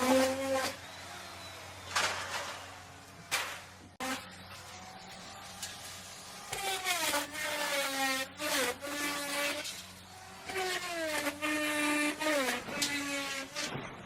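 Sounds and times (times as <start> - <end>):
wood router cutting wood: 0.0 - 13.8.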